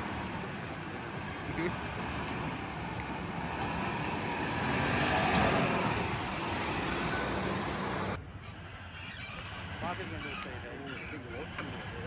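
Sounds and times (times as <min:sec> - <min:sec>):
tyres churning on sand: 0:00.0 - 0:12.0.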